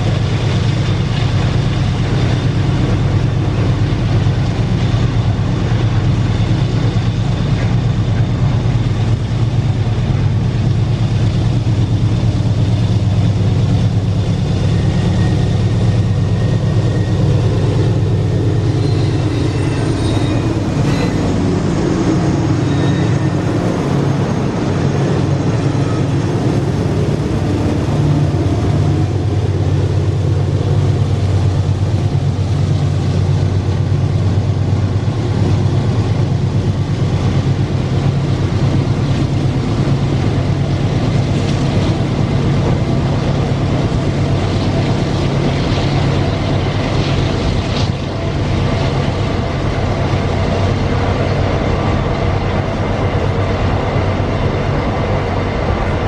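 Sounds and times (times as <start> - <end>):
locomotive engines droning: 0.0 - 56.0.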